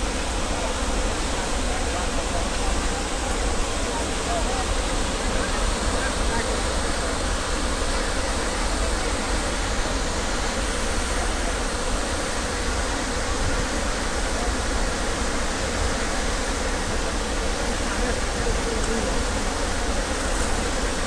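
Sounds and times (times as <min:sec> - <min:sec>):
floodwater rushing with deep rumble: 0:00.0 - 0:21.0.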